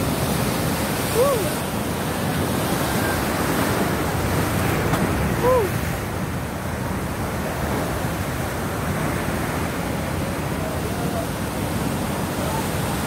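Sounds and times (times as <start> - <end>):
sea surf breaking over rocks: 0.0 - 13.0.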